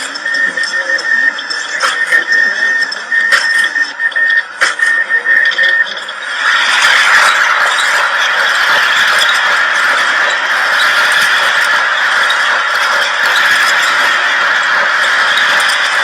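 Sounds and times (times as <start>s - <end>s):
machinery squealing and grinding: 0.0s - 16.0s.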